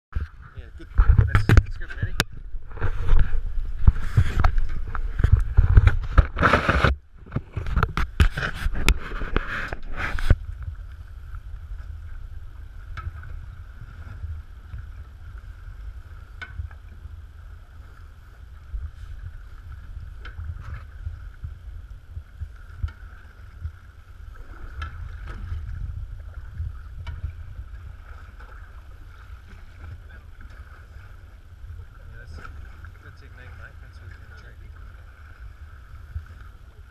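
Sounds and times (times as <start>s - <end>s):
boat engine rumble: 0.1s - 36.9s
wind buffeting microphone: 0.1s - 36.9s.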